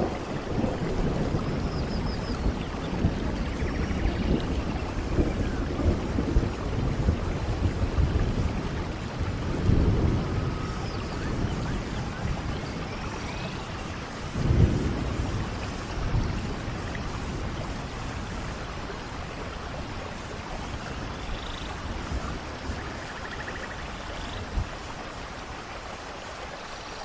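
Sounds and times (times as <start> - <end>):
rolling thunder: 0.0 - 25.4
heavy rain: 0.0 - 27.0.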